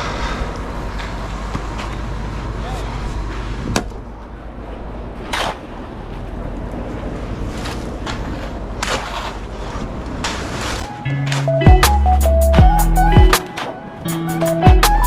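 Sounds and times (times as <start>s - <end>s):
concrete mixer truck engine: 0.0s - 15.0s.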